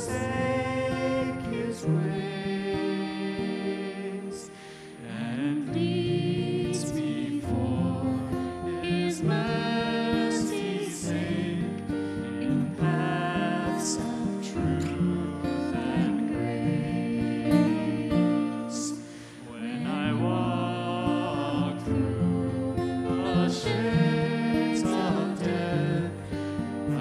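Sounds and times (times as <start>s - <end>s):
acoustic guitar: 0.0s - 27.0s
person singing: 0.0s - 27.0s.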